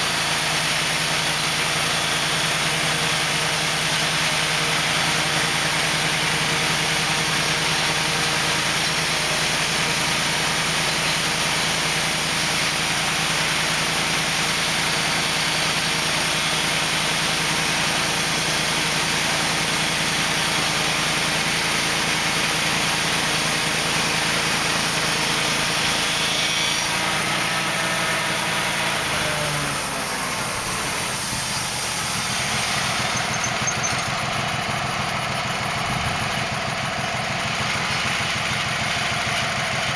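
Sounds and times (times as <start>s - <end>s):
band blade sawing log: 0.0s - 34.6s
sawmill engine running: 0.0s - 39.9s.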